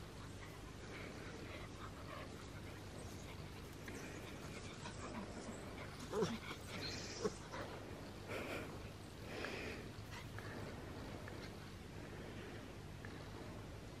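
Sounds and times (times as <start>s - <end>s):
dogs playing: 0.0s - 12.4s.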